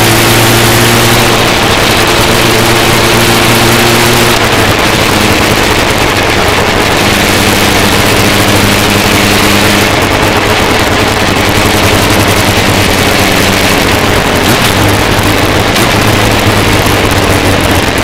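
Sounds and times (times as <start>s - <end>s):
motorcycle engine cruising: 0.0s - 18.0s
road rush: 0.0s - 18.0s.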